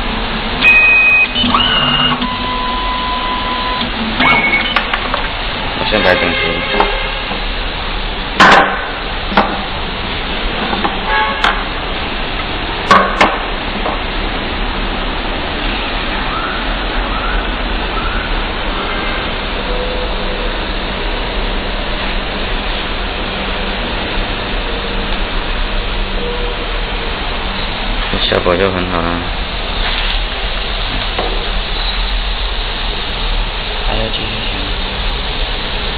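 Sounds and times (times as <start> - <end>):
steady noise with low hum: 0.0 - 35.9.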